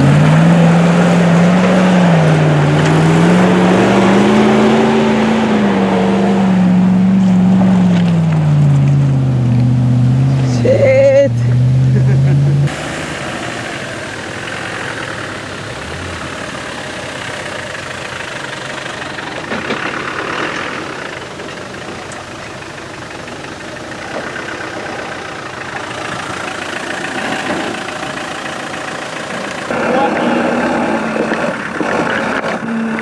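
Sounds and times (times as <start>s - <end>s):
truck engines at low revs: 0.0s - 33.0s.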